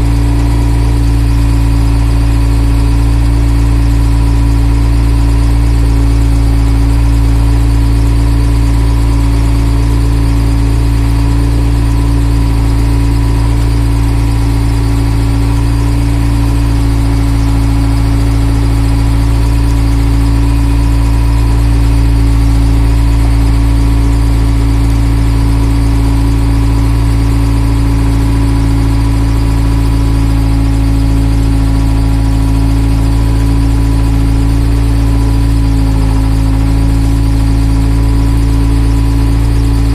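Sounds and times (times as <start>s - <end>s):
constant whine: 0.0s - 39.9s
diesel engine running: 0.0s - 39.9s.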